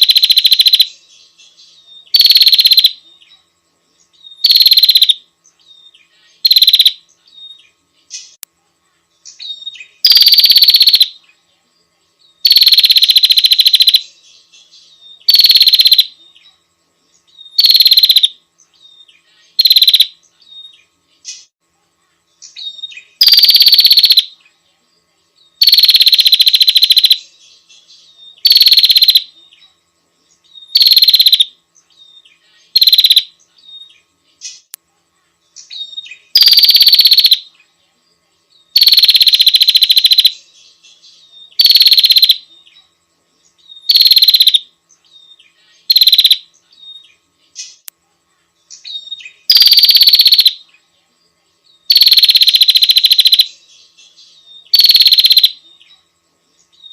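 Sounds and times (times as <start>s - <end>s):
bird buzzy pulsed calls: 0.0s - 8.4s, 9.2s - 11.4s, 12.4s - 21.6s, 22.4s - 24.5s, 25.5s - 34.7s, 35.5s - 37.7s, 38.6s - 47.9s, 48.6s - 50.7s, 51.8s - 56.9s.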